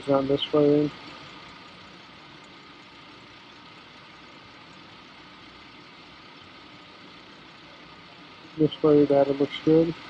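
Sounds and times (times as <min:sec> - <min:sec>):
van engine idling: 0:00.0 - 0:10.0.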